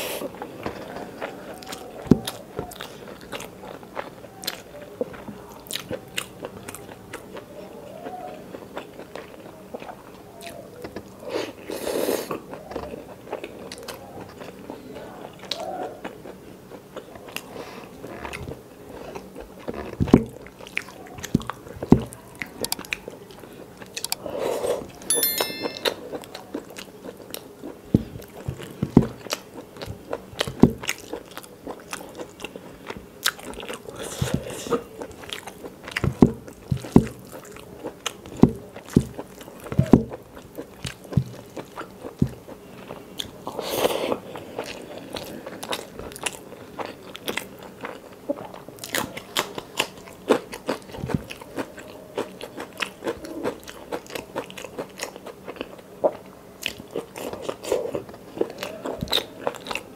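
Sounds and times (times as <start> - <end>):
chewing and biting: 0.3 - 11.2, 12.3 - 24.2, 26.5 - 59.9.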